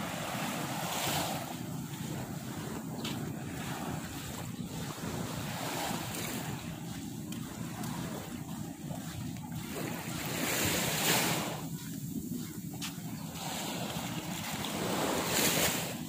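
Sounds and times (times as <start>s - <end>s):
small waves washing onto shore: 0.0s - 16.0s
wind rumbling on microphone: 0.0s - 16.0s.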